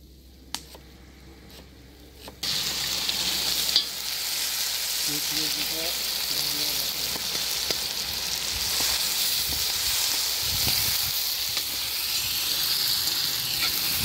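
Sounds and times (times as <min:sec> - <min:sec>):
meat and onions sizzling: 0:02.4 - 0:14.0.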